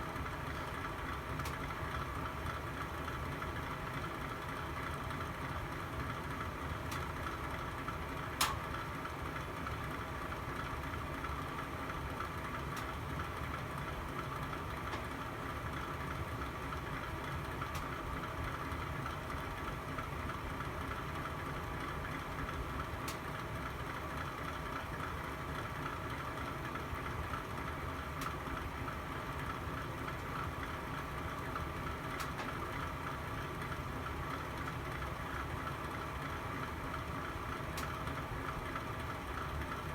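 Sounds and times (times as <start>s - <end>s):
fire burning in a fireplace: 0.1s - 39.9s.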